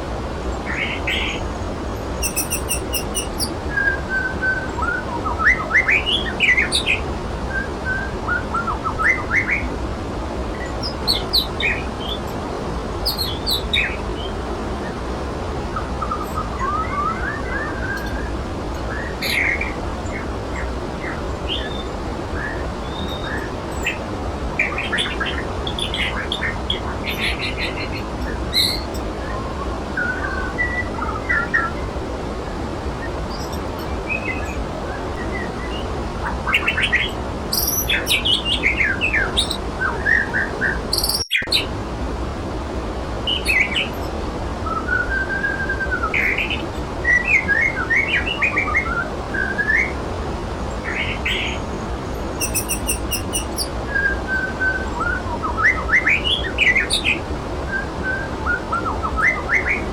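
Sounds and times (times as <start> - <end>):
waterfall rushing: 0.0 - 59.9
birds chirping and whistling: 0.6 - 9.7, 10.6 - 12.4, 13.0 - 14.4, 15.7 - 32.0, 33.0 - 41.8, 43.3 - 50.0, 50.7 - 59.9.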